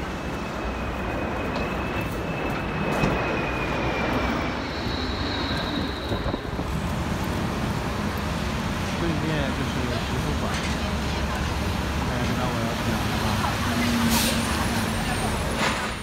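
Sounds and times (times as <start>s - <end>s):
city street noise: 0.0s - 16.0s
jet airliner flying overhead: 0.0s - 16.0s.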